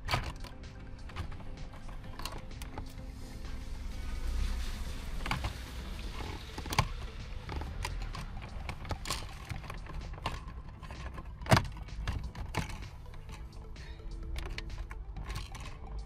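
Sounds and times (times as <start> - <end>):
clicks and knocks of parts and tools: 0.0 - 3.0, 6.2 - 16.0.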